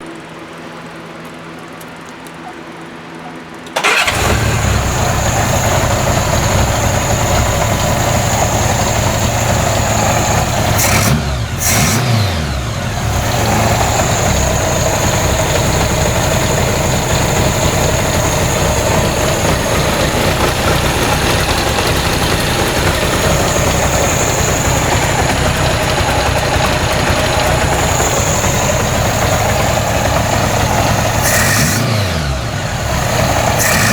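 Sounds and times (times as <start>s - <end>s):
motorcycle engine starting and idling: 3.6s - 33.9s.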